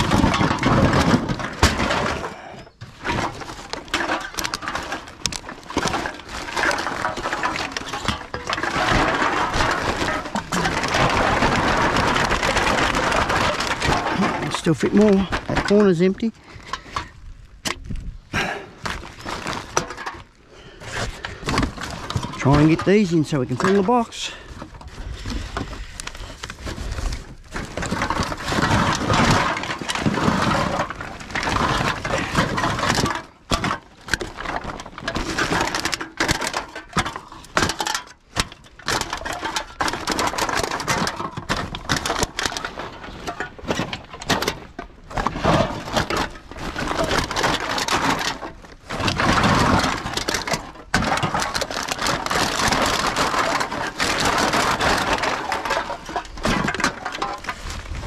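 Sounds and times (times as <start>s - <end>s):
cans and bottles clattering: 0.0s - 17.1s, 18.4s - 58.0s.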